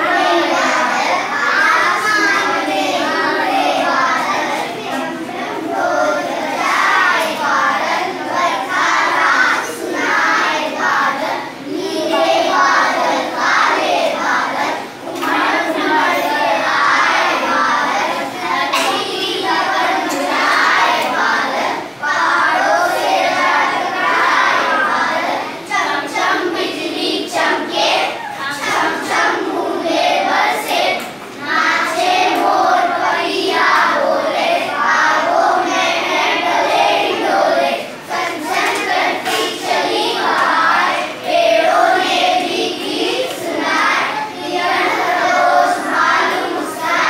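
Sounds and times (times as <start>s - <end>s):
children singing: 0.0s - 47.0s.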